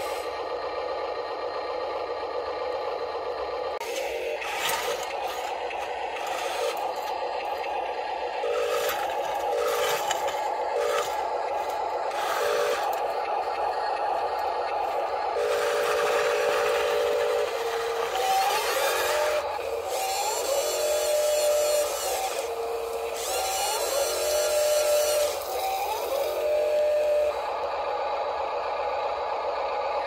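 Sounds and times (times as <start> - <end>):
small electric motors whining: 0.0 - 1.0, 2.6 - 28.4.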